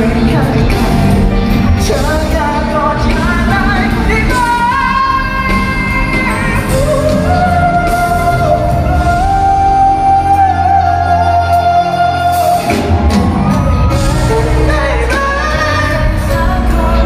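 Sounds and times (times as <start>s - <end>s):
lead singer singing: 0.0s - 17.0s
live band playing pop song: 0.0s - 17.0s.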